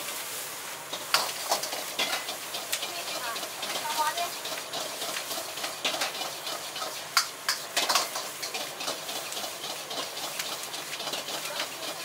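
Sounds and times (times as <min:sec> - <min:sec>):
gas burners hissing: 0:00.0 - 0:12.0
metal ladles scraping woks: 0:00.0 - 0:12.0.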